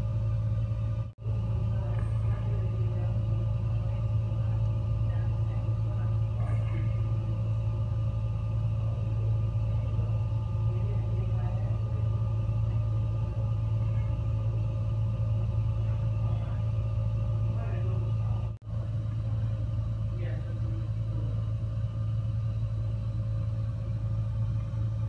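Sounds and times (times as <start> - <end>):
faint steady hum: 0.0 - 25.0
gas fireplace flames rumbling: 0.0 - 25.0.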